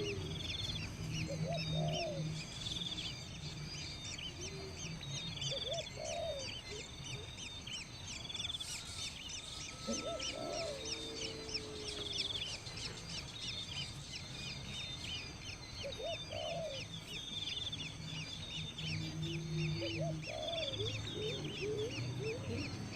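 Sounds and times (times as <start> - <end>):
lower bird calls: 0.0 - 22.9
small birds chirping: 0.0 - 22.9.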